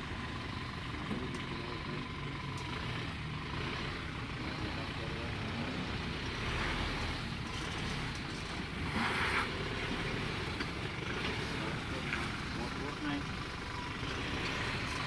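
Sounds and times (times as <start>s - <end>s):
truck engine at low revs: 0.0s - 15.0s.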